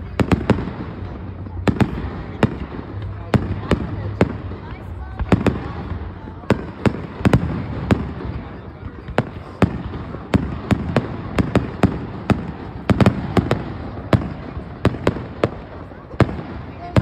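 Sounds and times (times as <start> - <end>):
fireworks exploding with sharp bangs: 0.0 - 17.0.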